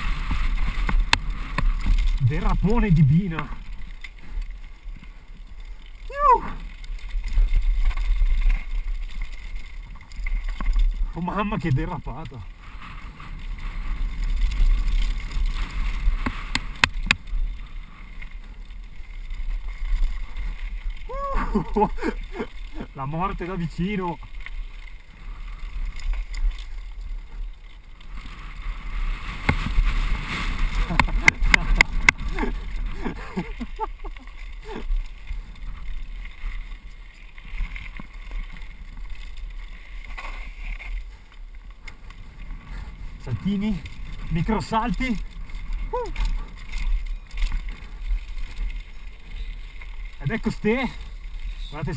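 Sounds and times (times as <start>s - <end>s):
bike clattering over bumps: 0.0s - 11.4s, 12.2s - 51.7s
bike trail rumble: 0.0s - 51.9s.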